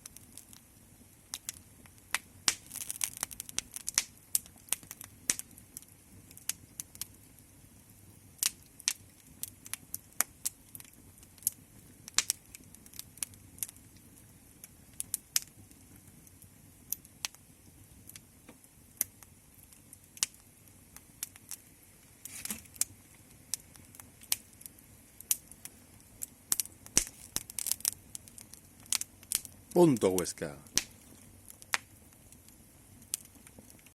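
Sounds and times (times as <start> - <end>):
soft steady hiss: 0.0 - 33.9
wood fire crackling: 0.0 - 33.9.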